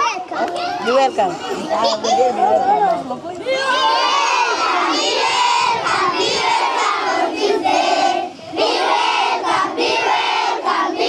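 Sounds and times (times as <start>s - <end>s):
children calling out and chanting: 0.0s - 11.0s.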